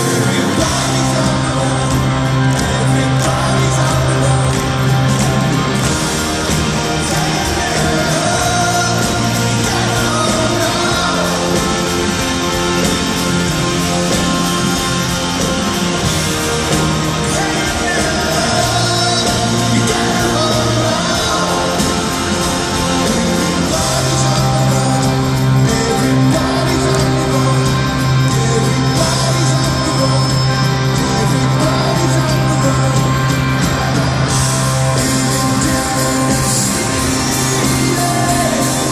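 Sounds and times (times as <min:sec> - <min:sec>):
drums: 0:00.0 - 0:38.9
electric guitars: 0:00.0 - 0:38.9
lead vocal singing: 0:00.0 - 0:38.9.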